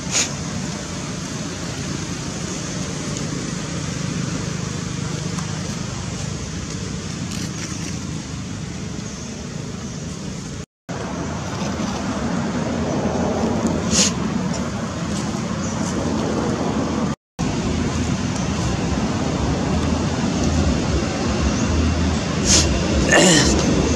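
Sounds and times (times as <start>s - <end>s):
outdoor background hum and hiss: 0.0s - 23.9s.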